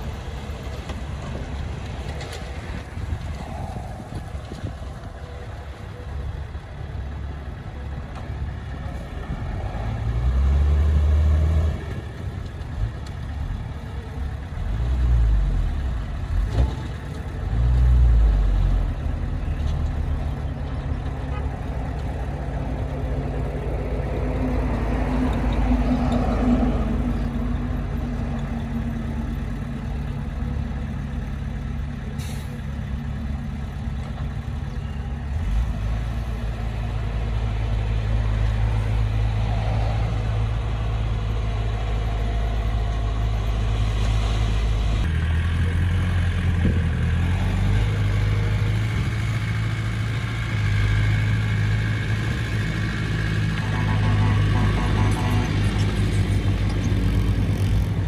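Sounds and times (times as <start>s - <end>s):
diesel earthmoving equipment running: 0.0s - 58.0s.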